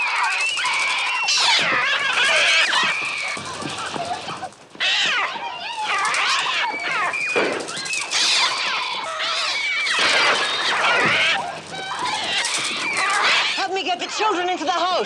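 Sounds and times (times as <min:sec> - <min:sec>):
birds screeching: 0:00.0 - 0:14.4.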